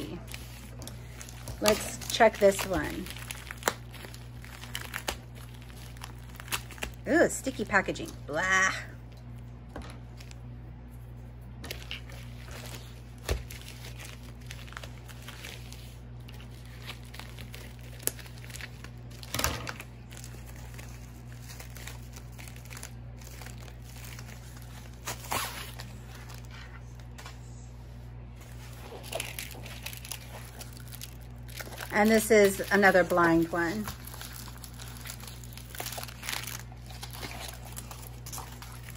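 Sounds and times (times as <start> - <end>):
plastic packaging crinkling and tearing: 0.0 - 10.5, 11.6 - 27.3, 28.4 - 38.9.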